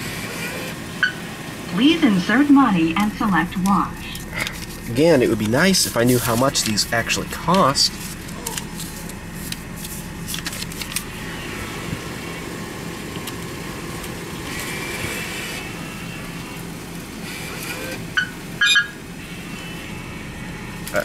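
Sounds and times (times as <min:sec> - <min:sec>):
bill acceptor whirring: 0:00.0 - 0:21.0
car engine idling: 0:00.0 - 0:21.0.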